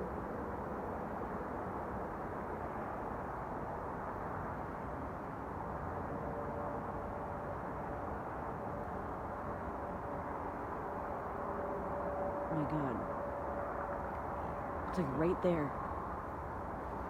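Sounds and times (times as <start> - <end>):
low mechanical drone overhead: 0.0 - 17.0.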